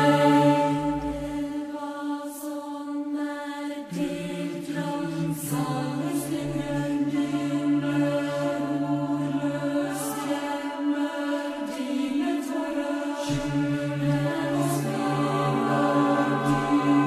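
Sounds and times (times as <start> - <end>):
slow chant-like music: 0.0 - 17.0.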